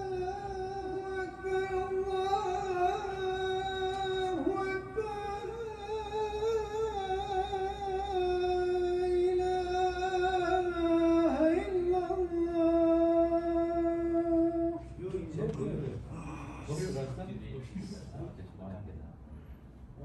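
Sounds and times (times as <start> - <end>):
man chanting call to prayer: 0.0 - 17.5.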